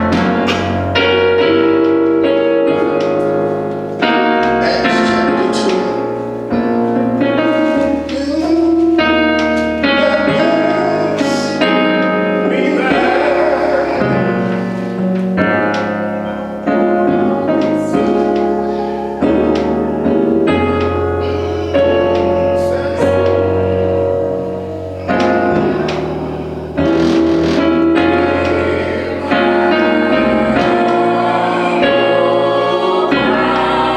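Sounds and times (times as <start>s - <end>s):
keyboard chords: 0.0s - 33.9s
person singing: 4.1s - 33.9s.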